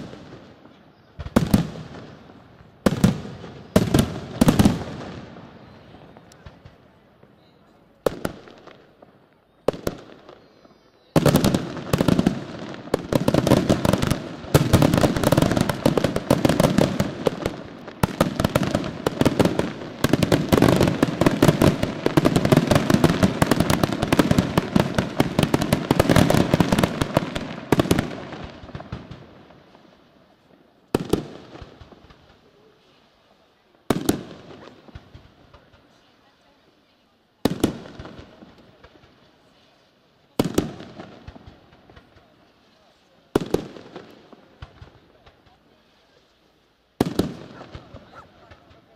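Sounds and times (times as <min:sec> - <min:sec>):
fireworks bangs: 0:00.0 - 0:48.9
fireworks crackling: 0:00.0 - 0:48.9.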